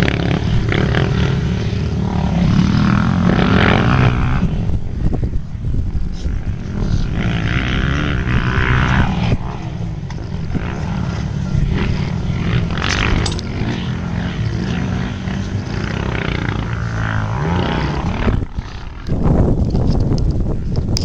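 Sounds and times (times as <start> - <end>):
dirt bike engine revving: 0.0 - 5.1, 6.1 - 19.6.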